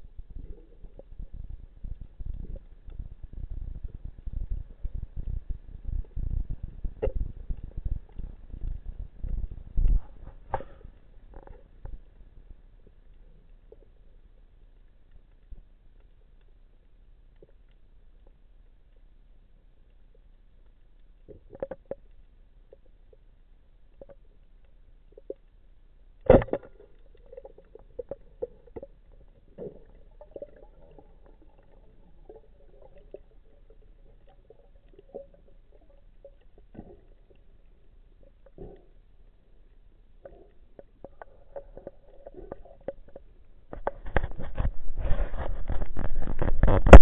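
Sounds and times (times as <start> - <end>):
muffled underwater clicks and knocks: 0.0 - 19.0, 19.9 - 23.3, 23.9 - 25.6, 26.2 - 47.0.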